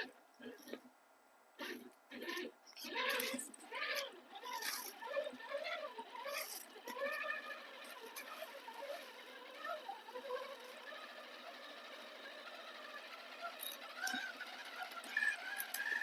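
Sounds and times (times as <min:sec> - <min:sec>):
toy car motor whining: 0:02.1 - 0:16.0.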